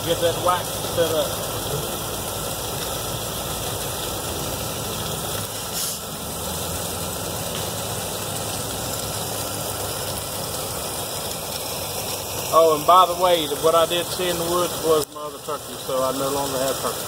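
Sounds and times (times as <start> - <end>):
steady roar with hiss: 0.0 - 17.0.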